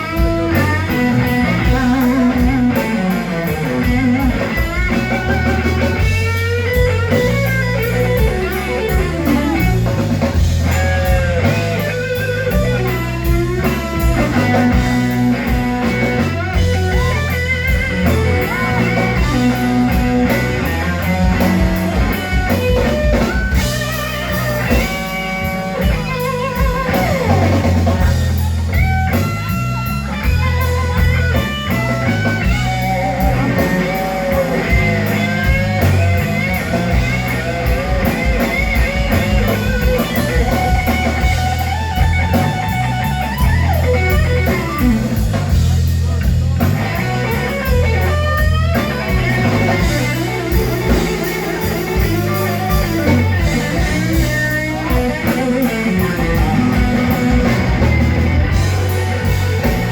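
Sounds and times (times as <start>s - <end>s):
blues band playing: 0.0s - 59.9s
electric guitar bending notes: 0.0s - 59.9s.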